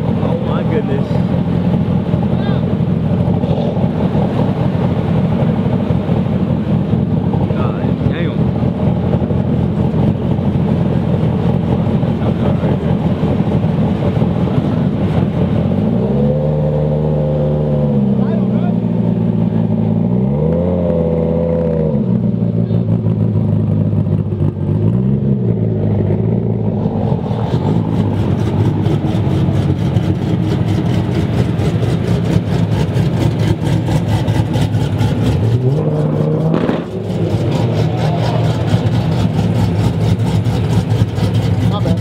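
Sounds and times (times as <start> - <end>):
fast exhaust pulsing: 0.0 - 20.1, 22.0 - 42.0
car engines idling: 0.0 - 42.0
engine throttle revs: 0.0 - 42.0.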